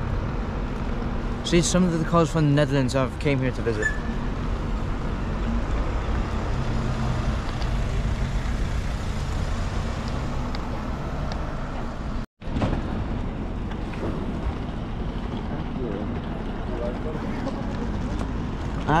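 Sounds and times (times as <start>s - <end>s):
car engine hum and road noise: 0.0s - 19.0s.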